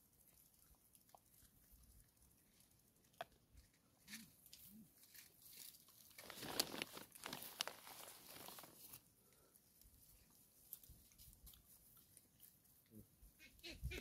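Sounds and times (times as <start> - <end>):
rustling and clicking in dry grass: 0.0 - 13.6.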